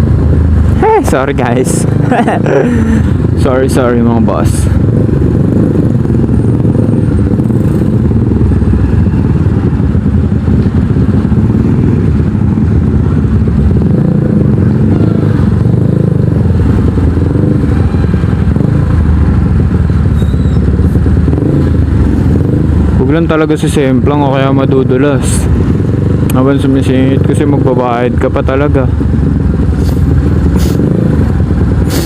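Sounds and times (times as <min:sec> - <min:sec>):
motorcycle exhaust low rumble: 0:00.0 - 0:32.0.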